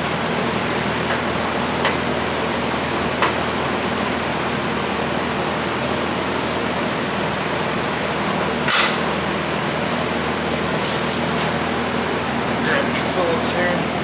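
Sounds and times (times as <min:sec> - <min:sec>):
fan noise with low hum: 0:00.0 - 0:14.0.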